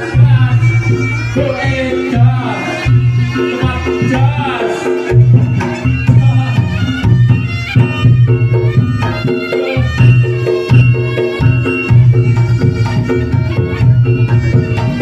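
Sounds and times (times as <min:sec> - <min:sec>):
drums: 0:00.0 - 0:15.0
reedy shawm melody: 0:00.0 - 0:15.0.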